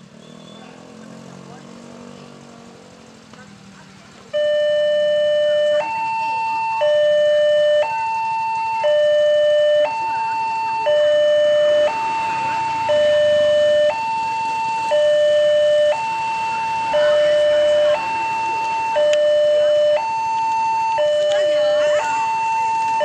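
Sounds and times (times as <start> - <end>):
two-tone electronic warning siren: 3.4 - 23.0.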